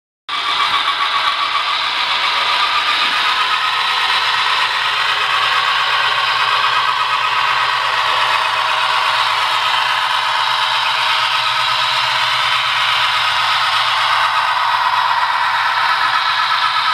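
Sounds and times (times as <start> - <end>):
model train rattling whir: 0.3 - 16.9.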